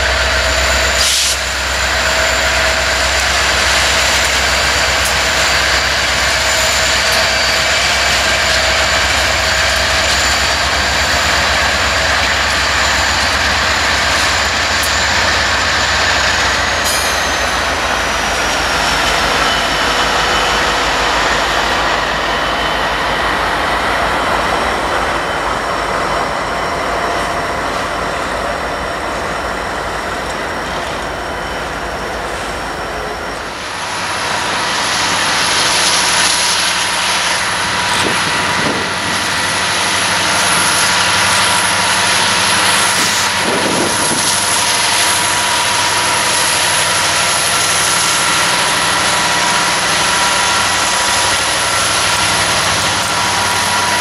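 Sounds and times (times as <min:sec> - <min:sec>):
diesel locomotives running: 0:00.0 - 0:54.0
train wheels on rail: 0:00.0 - 0:54.0.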